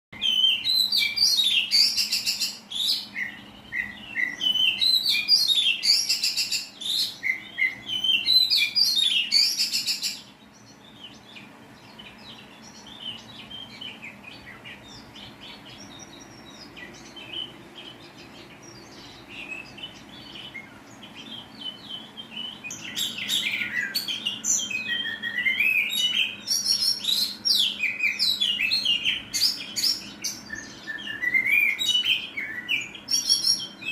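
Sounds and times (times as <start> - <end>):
bird singing harsh bursts: 0.2 - 33.9.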